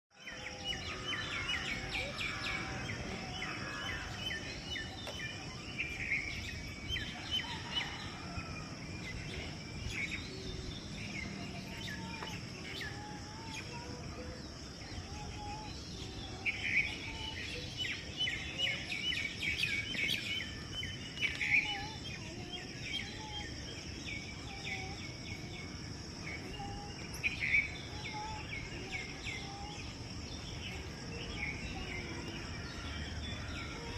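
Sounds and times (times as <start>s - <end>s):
birds chirping and trilling: 0.2s - 33.9s
insect drone: 0.2s - 33.9s.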